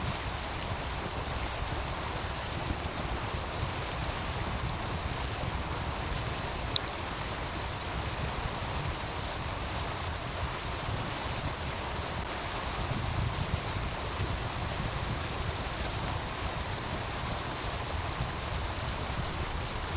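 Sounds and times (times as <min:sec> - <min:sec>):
stream rushing: 0:00.0 - 0:19.9
wood fire crackling: 0:00.0 - 0:19.9.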